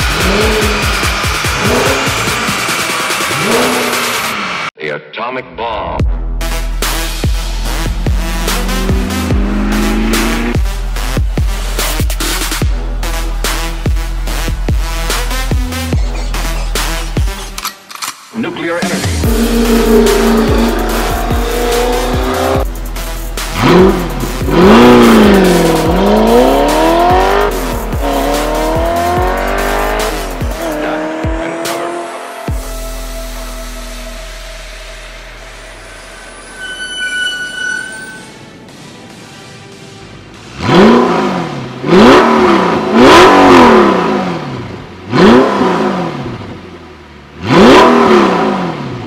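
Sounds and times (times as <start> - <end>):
background music with beat: 0.0 - 4.7, 6.0 - 17.6, 18.6 - 36.2, 38.3 - 43.9
car engine accelerating: 0.0 - 4.7, 6.8 - 17.6, 19.0 - 36.4, 40.4 - 49.0.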